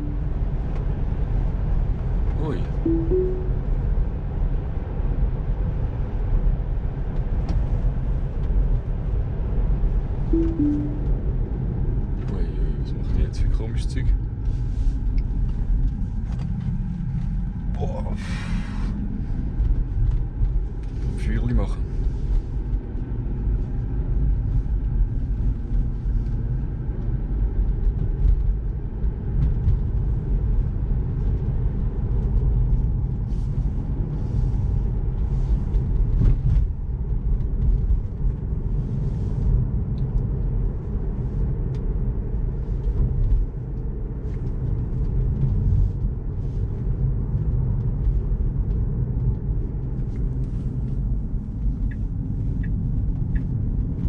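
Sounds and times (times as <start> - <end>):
road and tyre rumble in car: 0.0 - 2.8, 3.6 - 10.4, 11.1 - 54.0.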